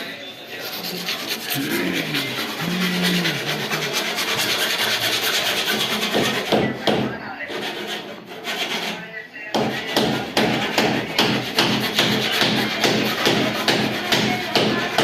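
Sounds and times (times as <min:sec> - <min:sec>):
rasping tool scrape: 0:00.5 - 0:09.0, 0:09.6 - 0:15.0.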